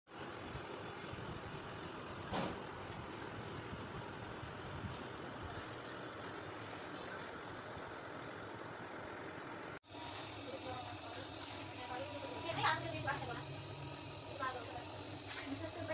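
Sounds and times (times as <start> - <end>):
steady background noise: 0.1 - 15.9.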